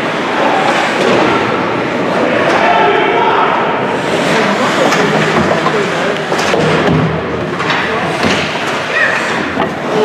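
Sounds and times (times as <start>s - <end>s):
players banging against rink boards: 0.7s - 2.7s, 4.0s - 10.0s.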